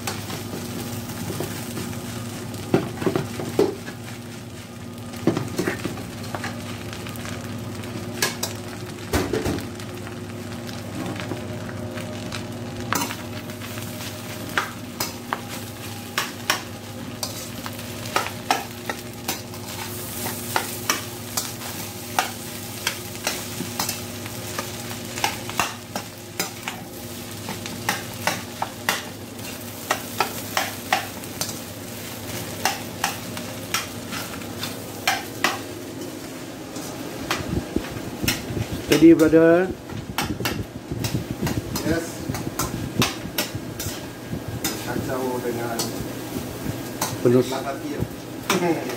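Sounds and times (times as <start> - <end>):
rice sizzling in a frying pan: 0.0 - 48.9.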